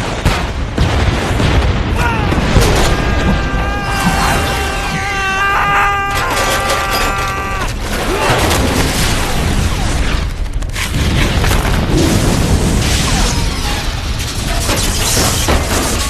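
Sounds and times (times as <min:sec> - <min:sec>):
booming blasts and crashes: 0:00.0 - 0:16.0.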